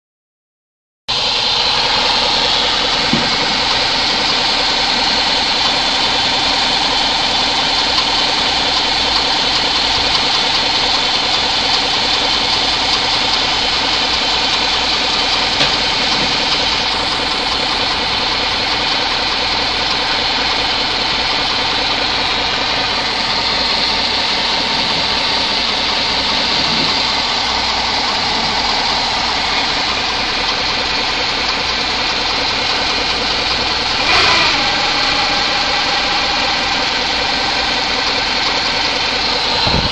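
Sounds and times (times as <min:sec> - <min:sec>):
car engine running: 0:01.1 - 0:39.9.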